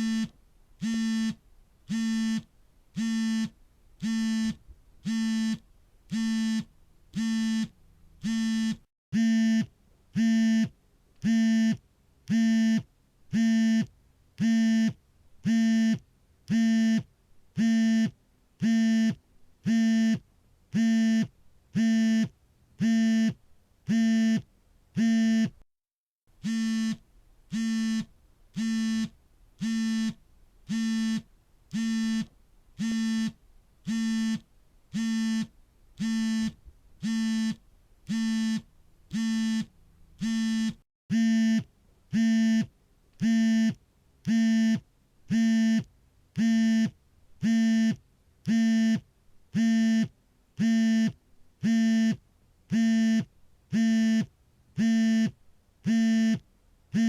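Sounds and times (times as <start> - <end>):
phone vibrating: 0.0 - 20.2, 26.4 - 49.0, 49.6 - 56.4.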